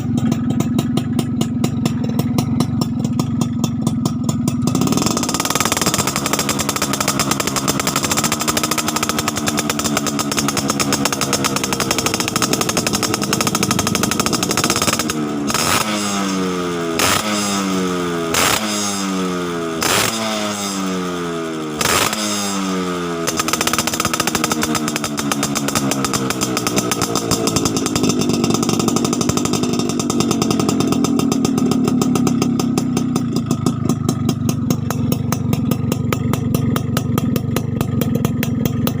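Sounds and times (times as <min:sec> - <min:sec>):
two-stroke motorcycle engine: 0:00.0 - 0:39.0.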